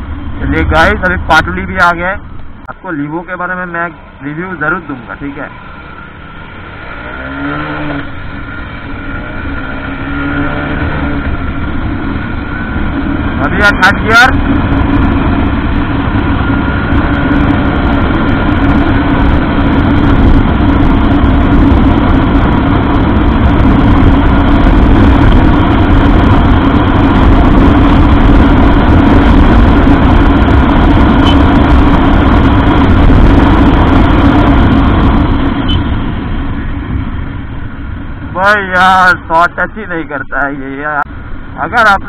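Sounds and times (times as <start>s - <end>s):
motorcycle engine running: 0.0s - 42.0s
wind rumble on microphone: 0.0s - 42.0s.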